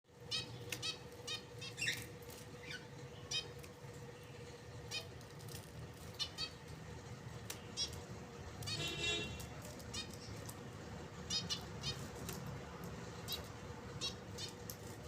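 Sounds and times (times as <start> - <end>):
steady low hum: 0.1 - 15.0
finches chirping: 0.2 - 6.8, 7.5 - 10.5, 11.2 - 12.4, 13.1 - 15.0.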